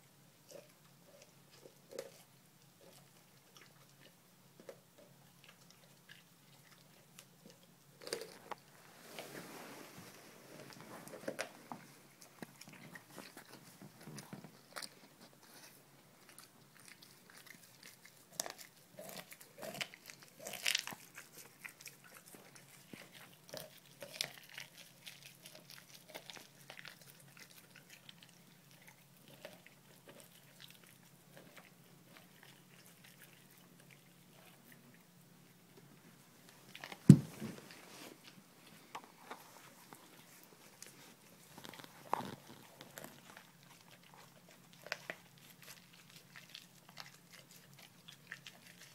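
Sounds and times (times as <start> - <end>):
puppy chewing raw fish: 0.3 - 8.8, 10.6 - 48.9.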